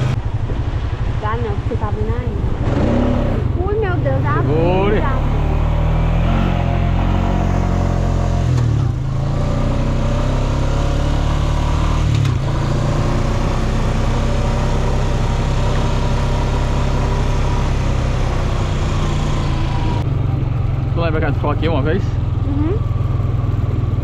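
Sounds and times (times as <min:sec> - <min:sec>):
quad bike engine running hard: 0:00.0 - 0:24.0.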